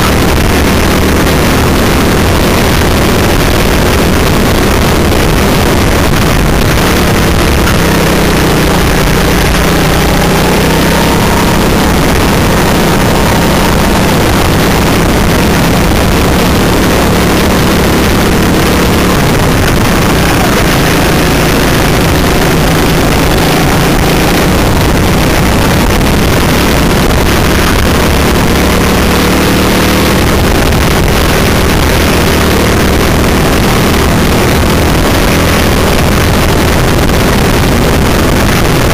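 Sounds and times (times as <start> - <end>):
kart engine buzzing: 0.0 - 38.9.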